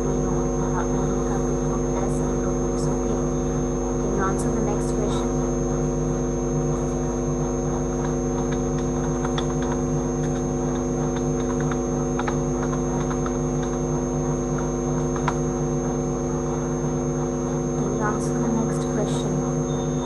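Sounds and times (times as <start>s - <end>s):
electrical mains hum: 0.0s - 20.0s
high-pitched whine: 0.0s - 20.0s.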